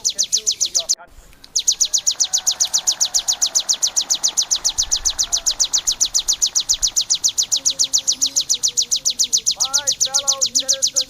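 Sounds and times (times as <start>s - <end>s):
bird song of rapid high notes: 0.0s - 11.0s.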